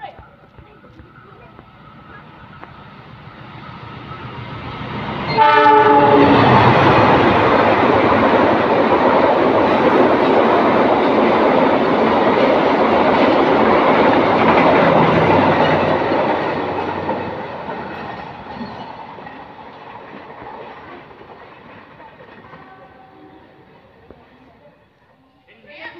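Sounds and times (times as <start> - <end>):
passenger train passing at speed: 0.0 - 25.9.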